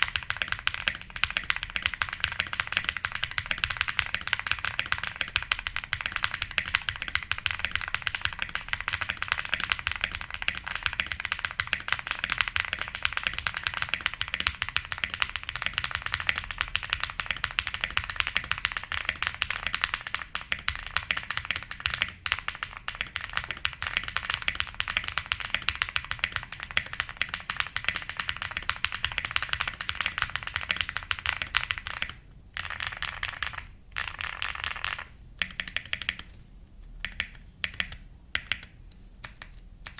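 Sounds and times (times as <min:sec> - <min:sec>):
fast mechanical keyboard typing: 0:00.0 - 0:36.3, 0:37.0 - 0:39.9.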